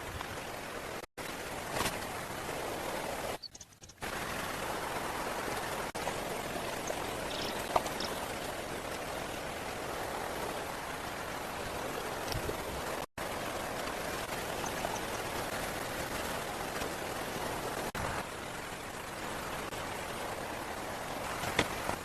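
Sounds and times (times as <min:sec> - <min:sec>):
water rushing: 0:00.0 - 0:03.4, 0:04.0 - 0:22.0.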